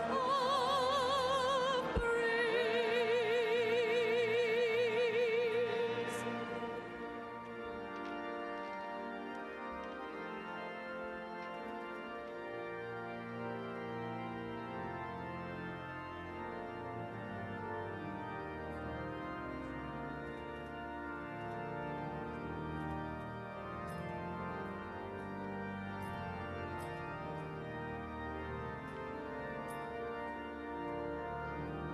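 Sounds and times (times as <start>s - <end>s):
pipe organ chords: 0.0s - 31.9s.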